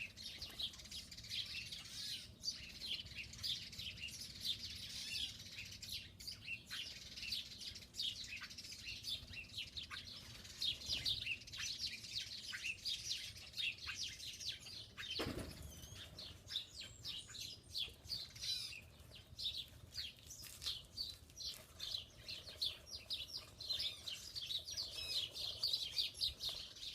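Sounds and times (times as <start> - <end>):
songbirds chirping and twittering: 0.0 - 26.9.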